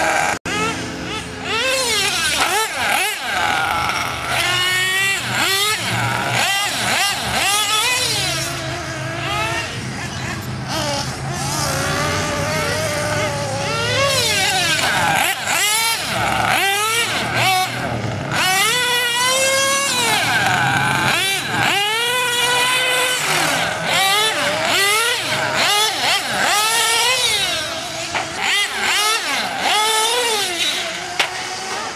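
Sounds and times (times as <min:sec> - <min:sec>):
small engine revving: 0:00.0 - 0:31.9.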